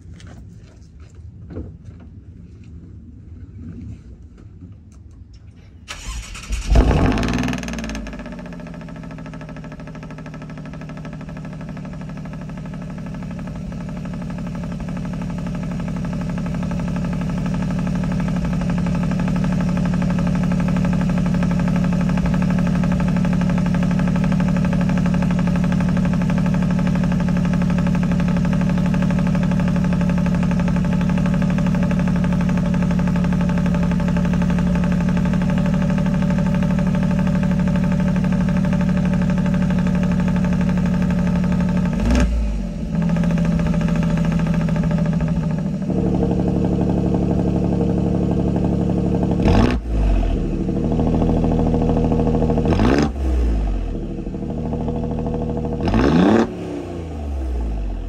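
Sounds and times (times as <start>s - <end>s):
car engine cranking and starting: 5.8s - 58.0s
car engine idling: 5.9s - 58.0s.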